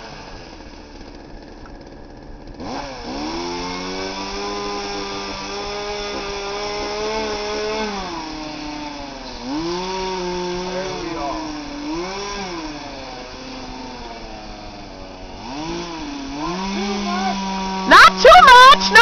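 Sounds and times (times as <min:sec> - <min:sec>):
chainsaw cutting tree trunk: 0:00.0 - 0:19.0
chainsaw idling and revving: 0:00.0 - 0:19.0.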